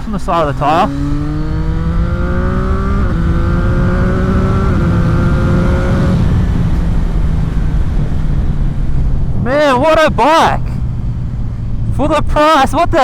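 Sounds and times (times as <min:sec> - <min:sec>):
motorcycle engine accelerating: 0:00.0 - 0:12.0
wind rush on microphone: 0:00.0 - 0:13.0.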